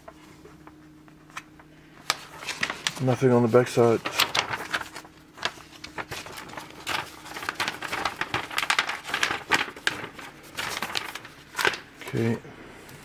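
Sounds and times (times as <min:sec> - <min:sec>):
paper poster rustling and crinkling: 0:00.0 - 0:13.0.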